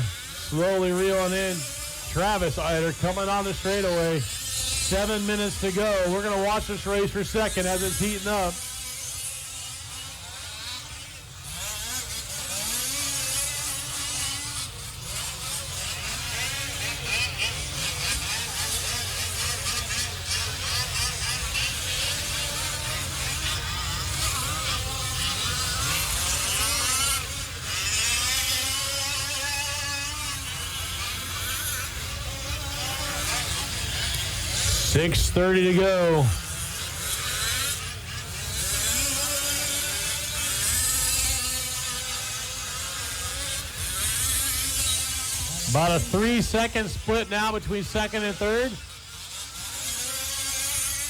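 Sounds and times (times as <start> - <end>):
rc truck engines buzzing: 0.0 - 51.0.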